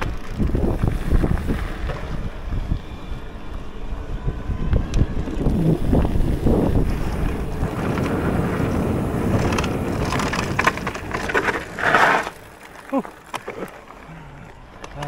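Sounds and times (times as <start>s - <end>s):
wind over microphone: 0.0s - 12.3s
bike clicks and rattles: 0.0s - 15.0s
bike tyres rolling on gravel: 0.0s - 15.0s.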